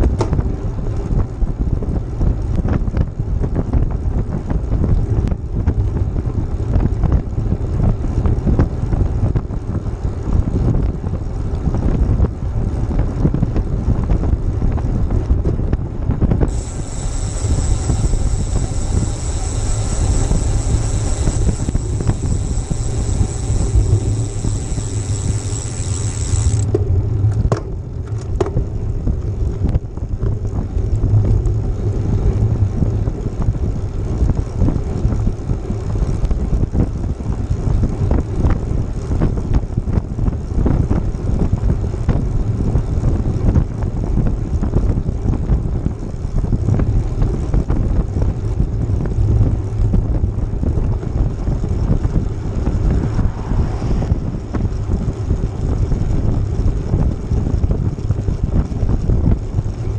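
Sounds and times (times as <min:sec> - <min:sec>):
road rumble: 0:00.0 - 0:59.9
wind buffeting microphone: 0:00.0 - 0:59.9.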